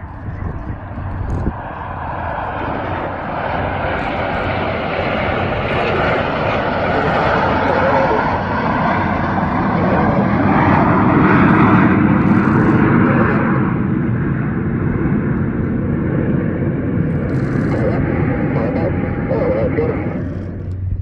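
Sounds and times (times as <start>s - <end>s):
jets flying past: 0.1s - 21.0s.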